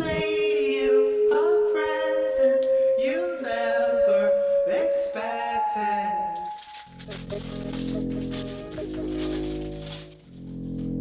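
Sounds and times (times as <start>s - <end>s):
song with gliding singing voice: 0.0s - 9.4s
steady sustained tone: 0.0s - 10.3s.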